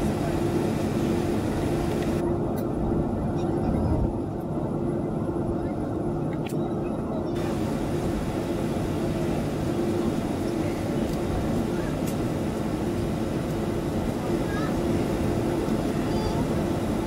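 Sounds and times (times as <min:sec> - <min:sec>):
jet engines hum inside cabin: 0:00.0 - 0:17.0.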